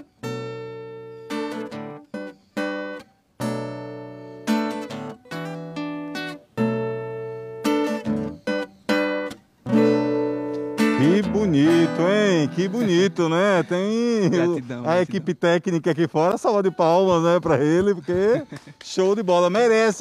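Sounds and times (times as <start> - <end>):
acoustic guitar strumming chords: 0.0 - 18.5.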